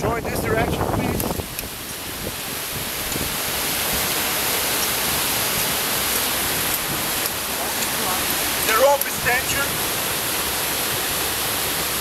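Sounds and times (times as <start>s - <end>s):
waterfall rushing into a pool: 0.0s - 12.0s.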